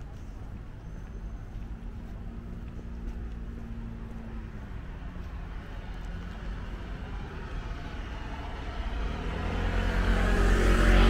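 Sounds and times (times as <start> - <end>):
tyre noise on road: 0.0 - 11.0
vehicle engine rumble: 0.0 - 11.0.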